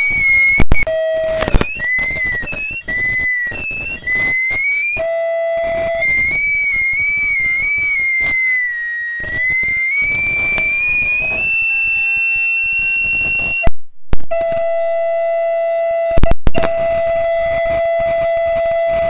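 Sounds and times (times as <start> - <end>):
audio feedback squealing: 0.0 - 19.0
low steady feedback tone: 0.0 - 19.0.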